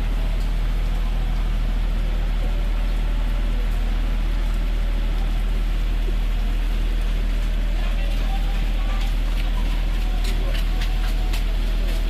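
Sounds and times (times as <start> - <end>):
heavy rain hissing: 0.0 - 12.0
low electrical hum: 0.0 - 12.0.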